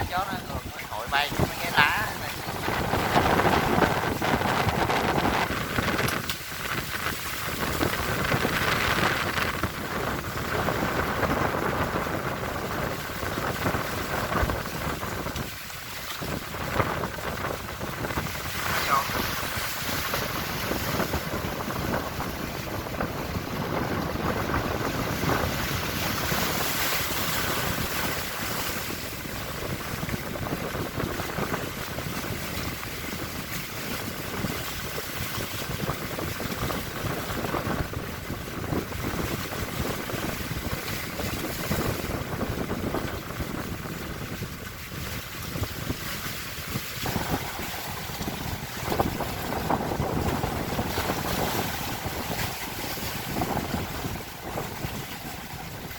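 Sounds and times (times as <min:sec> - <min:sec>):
sea waves: 0:00.0 - 0:55.9
wind buffeting microphone: 0:00.0 - 0:55.9.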